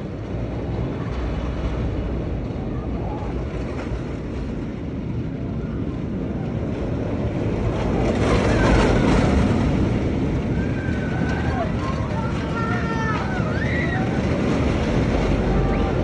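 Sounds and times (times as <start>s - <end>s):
roller coaster train rushing: 0.0s - 16.0s.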